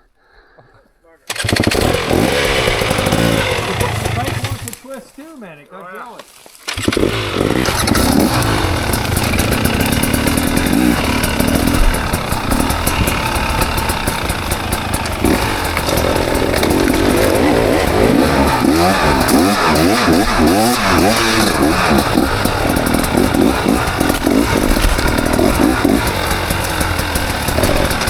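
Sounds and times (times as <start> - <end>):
dirt bike engine revving: 1.3 - 4.9, 6.7 - 28.0.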